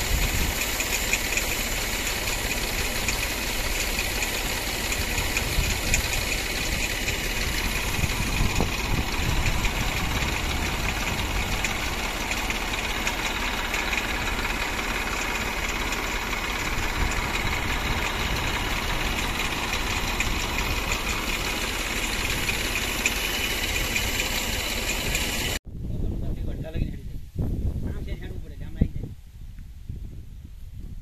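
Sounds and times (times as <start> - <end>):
tractor engine running: 0.0 - 25.6.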